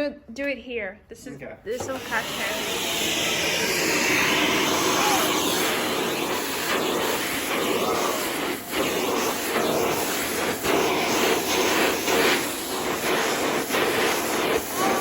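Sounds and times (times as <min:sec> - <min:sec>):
vacuum cleaner suction: 0:01.7 - 0:15.0.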